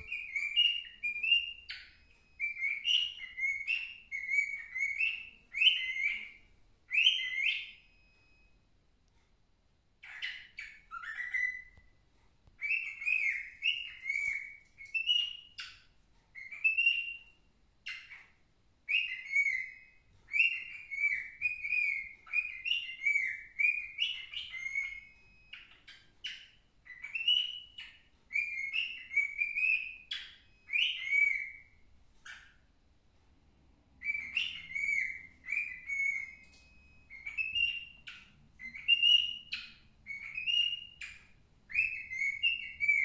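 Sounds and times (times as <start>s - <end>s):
cockatiel whistling: 0.0s - 8.5s, 10.0s - 32.6s, 34.0s - 43.0s.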